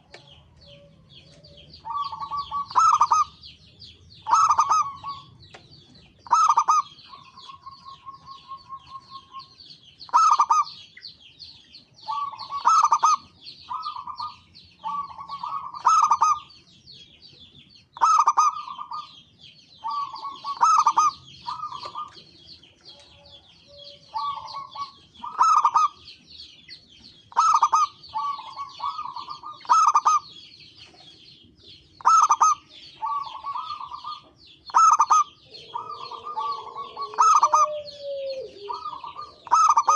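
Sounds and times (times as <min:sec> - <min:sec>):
doves cooing: 0:00.0 - 0:03.6, 0:04.2 - 0:10.8, 0:12.0 - 0:16.5, 0:18.0 - 0:19.2, 0:19.8 - 0:26.1, 0:27.3 - 0:30.4, 0:31.0 - 0:39.9.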